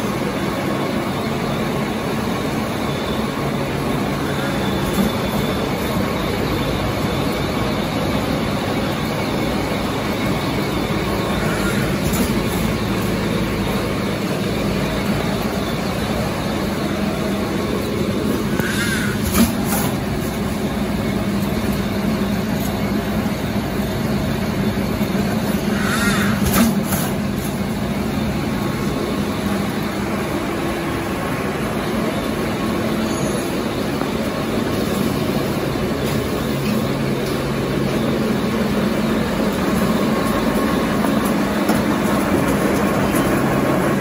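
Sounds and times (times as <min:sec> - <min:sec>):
production line machinery hum and clatter: 0:00.0 - 0:44.0.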